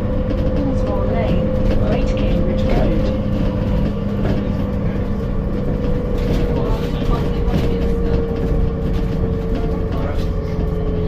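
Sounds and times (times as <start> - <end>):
bus engine drone: 0.0 - 11.0
low hum: 0.0 - 11.0.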